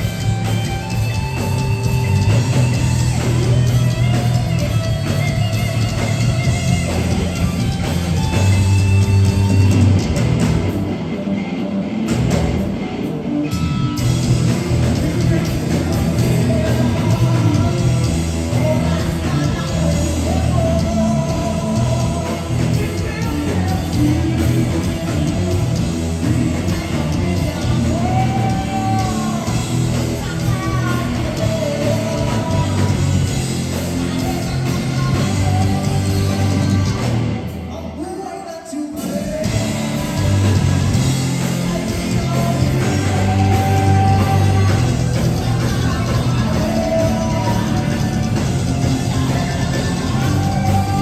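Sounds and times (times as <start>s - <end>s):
rock band playing: 0.0s - 51.0s.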